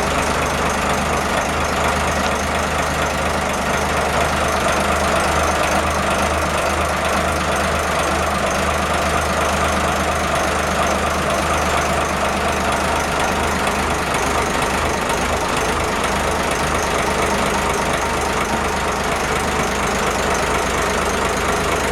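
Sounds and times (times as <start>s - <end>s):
boat engine idling: 0.0s - 21.9s.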